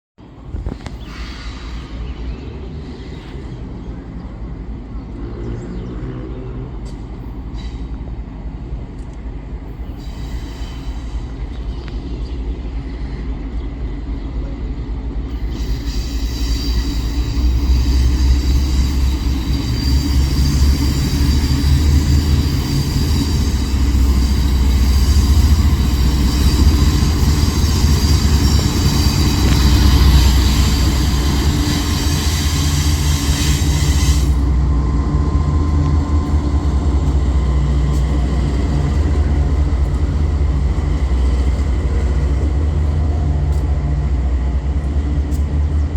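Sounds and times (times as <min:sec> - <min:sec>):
diesel locomotive rumble: 0:00.3 - 0:45.9
train wheel squeal: 0:00.6 - 0:04.6, 0:06.8 - 0:08.3, 0:09.6 - 0:45.5.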